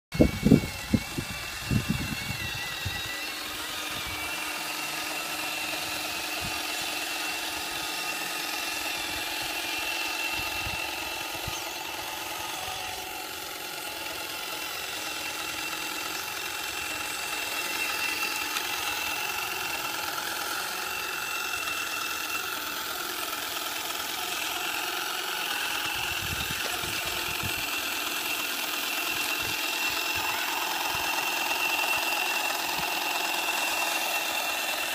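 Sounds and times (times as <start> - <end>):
electric motors whining: 0.2 - 34.9.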